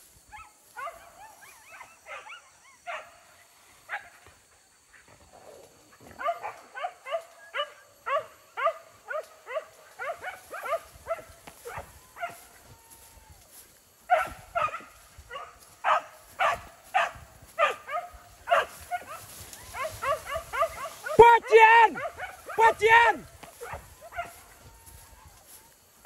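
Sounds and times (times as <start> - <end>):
dogs barking and yelping: 0.3 - 13.2, 14.0 - 25.8.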